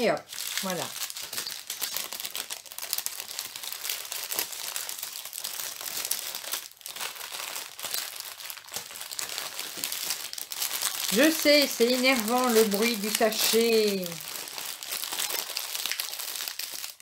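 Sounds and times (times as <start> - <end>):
plastic sachets crinkling: 0.0 - 17.0.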